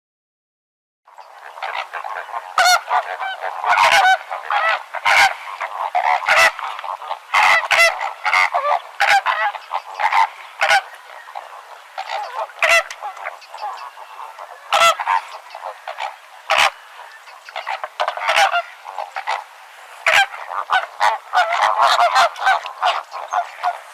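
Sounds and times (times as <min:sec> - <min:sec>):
flamingos honking: 0:01.2 - 0:23.9.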